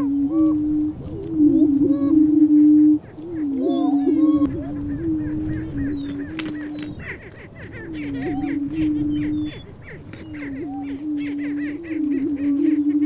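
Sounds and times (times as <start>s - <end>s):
birds cackling and whooping: 0.0s - 13.0s.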